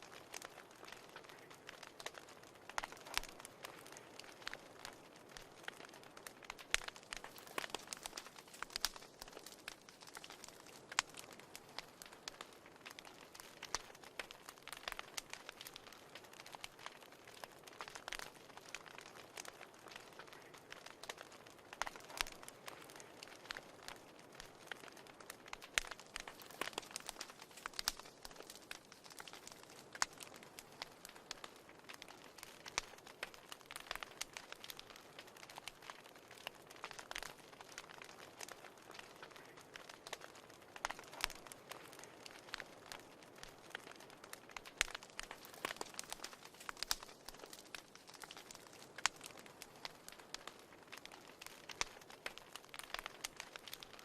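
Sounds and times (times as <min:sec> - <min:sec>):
soft steady hiss: 0:00.0 - 0:54.0
wood fire crackling and popping: 0:00.0 - 0:54.0.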